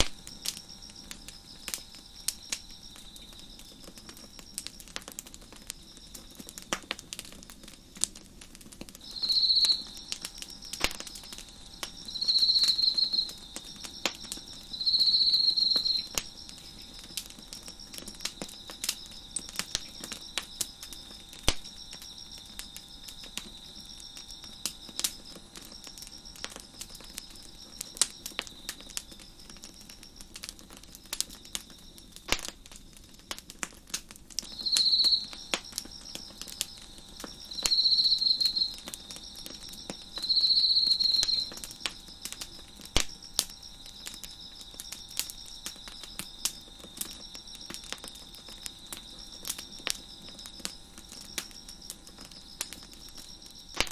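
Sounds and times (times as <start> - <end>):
crickets chirping: 0.0 - 53.9
wood fire crackling and popping: 0.0 - 53.9
nearby cricket trilling loudly: 9.0 - 33.0, 34.4 - 53.9.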